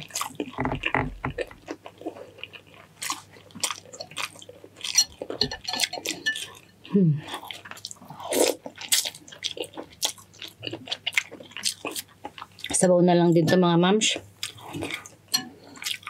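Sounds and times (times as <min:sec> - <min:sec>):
wet chewing and smacking: 0:00.0 - 0:12.8, 0:14.1 - 0:16.0.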